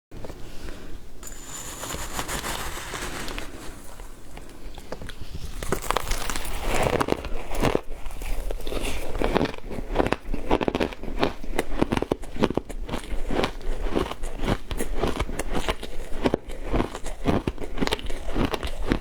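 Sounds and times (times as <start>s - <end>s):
frozen ice being chewed: 1.2s - 19.0s.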